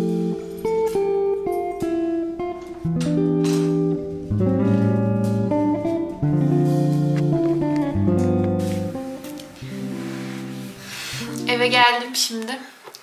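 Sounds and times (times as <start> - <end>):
plucked guitar melody: 0.0 - 12.1.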